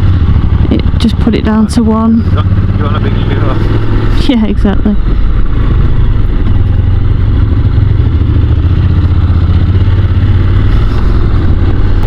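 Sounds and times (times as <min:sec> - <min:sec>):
motorcycle engine droning: 0:00.0 - 0:12.0
road and wind noise: 0:00.0 - 0:12.0.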